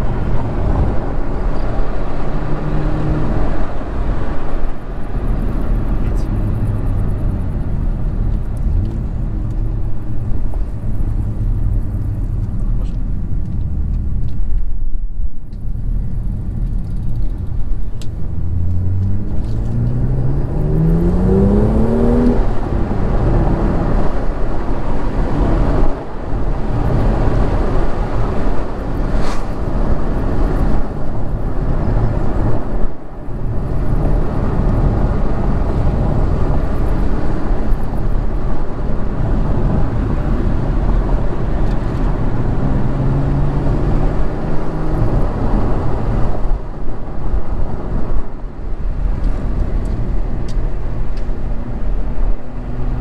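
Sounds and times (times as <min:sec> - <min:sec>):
car engine accelerating: 0:00.0 - 0:14.6, 0:15.4 - 0:53.0
road and tyre noise: 0:00.0 - 0:53.0.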